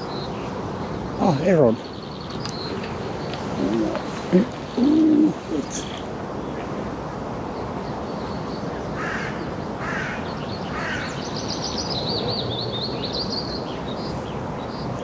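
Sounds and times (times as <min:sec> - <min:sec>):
harsh bird calls: 0:00.0 - 0:06.7, 0:07.6 - 0:15.0
steady background hiss: 0:00.0 - 0:15.0
warbling songbird song: 0:00.0 - 0:15.0.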